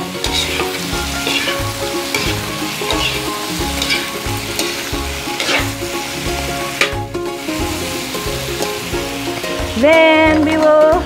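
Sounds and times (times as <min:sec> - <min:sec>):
spatula scraping a wok: 0:00.0 - 0:09.8
background music with a beat: 0:00.0 - 0:11.0
vegetables sizzling in a wok: 0:00.0 - 0:11.0.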